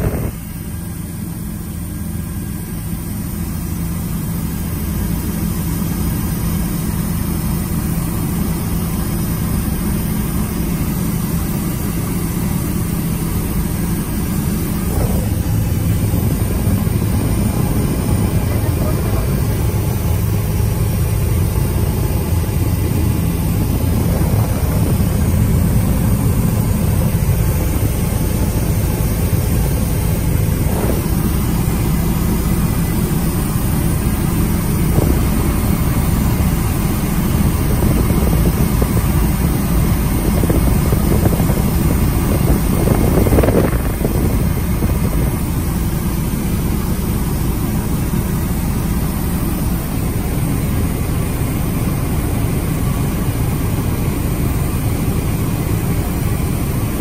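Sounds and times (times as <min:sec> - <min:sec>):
helicopter drone from cabin: 0:00.0 - 0:57.0.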